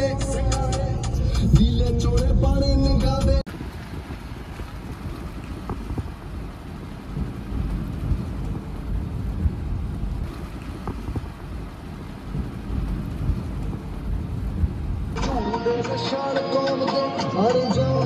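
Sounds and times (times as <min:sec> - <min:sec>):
wind buffeting microphone: 0:00.0 - 0:15.8
car road noise: 0:00.0 - 0:18.0.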